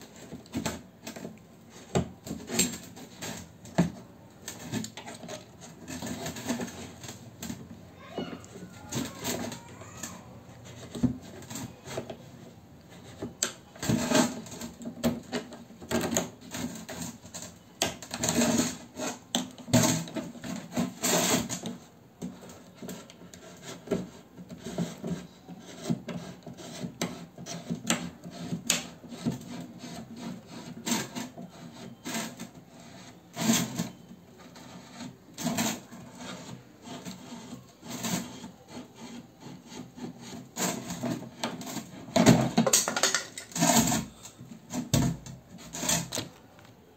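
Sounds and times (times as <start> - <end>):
knife rasping through plastic: 0.0 - 46.4.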